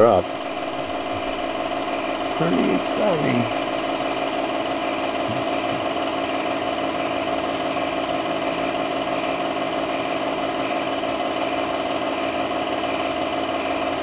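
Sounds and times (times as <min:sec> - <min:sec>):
film projector humming: 0:00.0 - 0:14.0.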